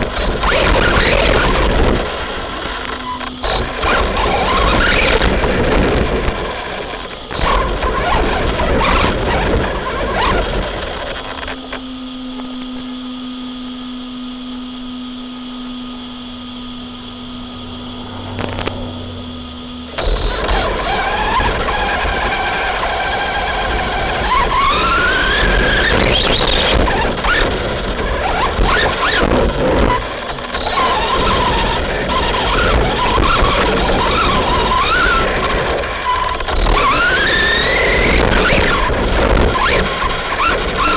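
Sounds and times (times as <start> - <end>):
low steady hum: 0.0 - 34.5
electric motor whining: 0.0 - 40.9.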